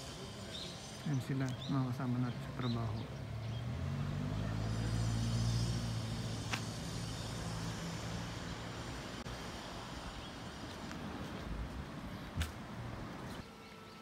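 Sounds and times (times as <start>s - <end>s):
vehicle engine running: 0.0s - 13.4s.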